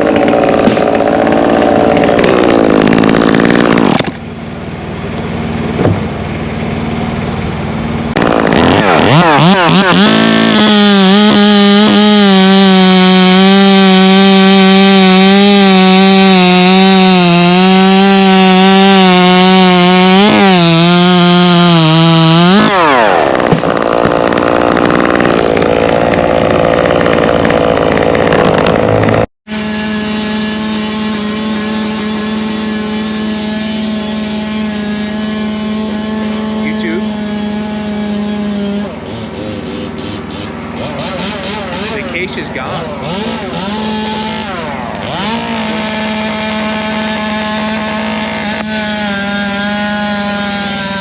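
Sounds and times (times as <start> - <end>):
chainsaw running at high revs: 0.0 - 51.0
small engine running steadily: 0.0 - 51.0.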